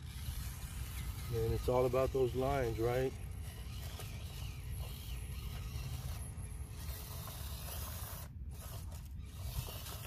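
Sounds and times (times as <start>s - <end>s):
rc car motor and gears whirring: 0.0s - 10.0s.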